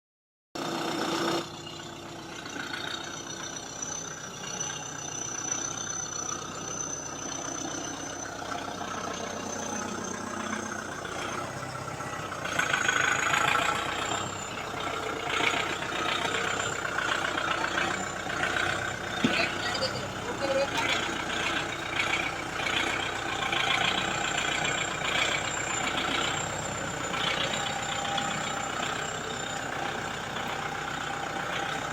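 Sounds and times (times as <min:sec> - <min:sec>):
tractor diesel engine idling: 0:00.6 - 0:31.9.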